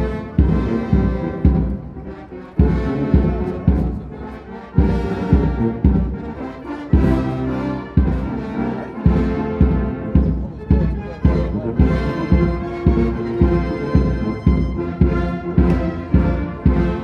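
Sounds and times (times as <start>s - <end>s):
brass band playing a march: 0.0s - 17.0s.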